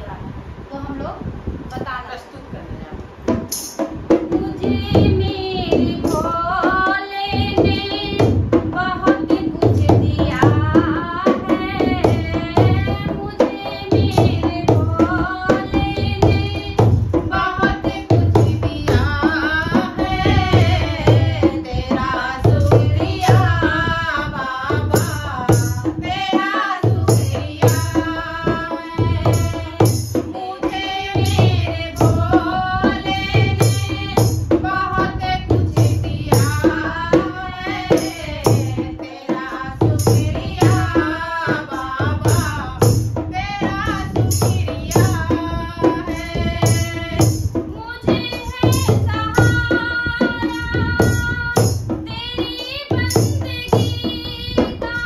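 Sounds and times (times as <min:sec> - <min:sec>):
women singing devotional song: 0:03.2 - 0:55.0
hand drum beat: 0:03.3 - 0:55.0.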